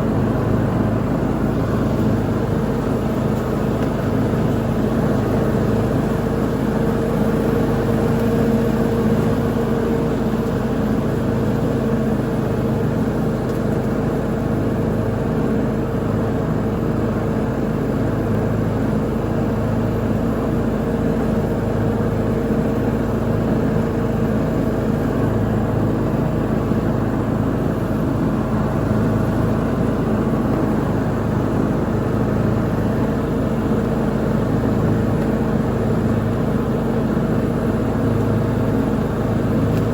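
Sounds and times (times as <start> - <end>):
lawn mower engine mowing: 0.0 - 15.1, 22.8 - 39.9.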